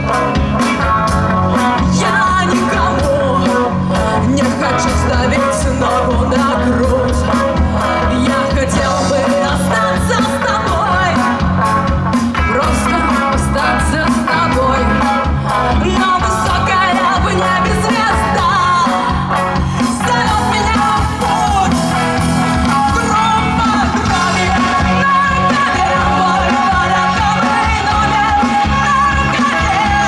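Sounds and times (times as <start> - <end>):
person singing: 0.0 - 30.0
rock band playing: 0.0 - 30.0.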